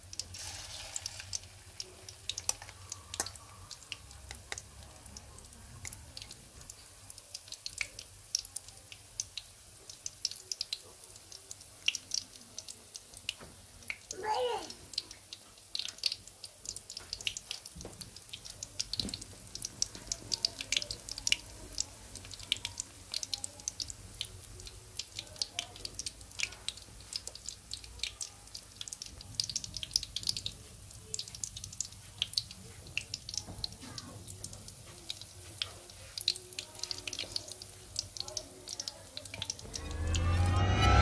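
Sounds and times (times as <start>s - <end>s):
oil sizzling with crackles and pops: 0.0s - 41.0s.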